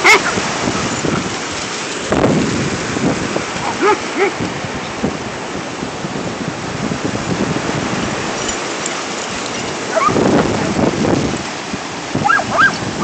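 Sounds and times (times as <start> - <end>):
ocean surf breaking: 0.0 - 13.0
wind on microphone: 0.0 - 13.0.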